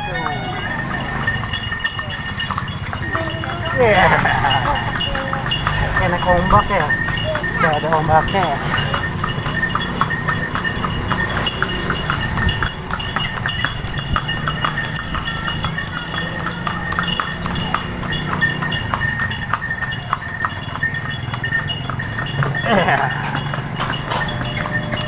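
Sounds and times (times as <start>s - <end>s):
horse hooves clip-clopping on road: 0.0s - 25.0s.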